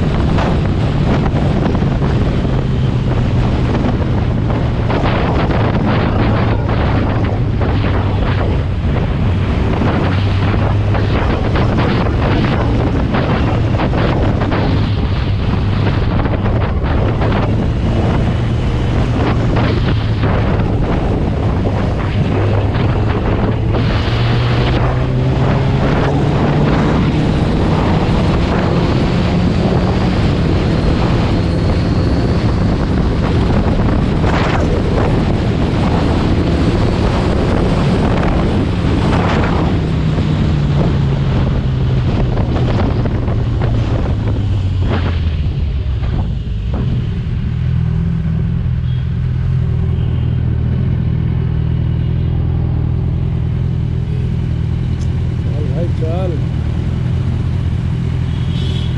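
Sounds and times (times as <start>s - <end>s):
motorcycle engine accelerating: 0.0s - 58.9s
wind noise on microphone: 0.0s - 58.9s.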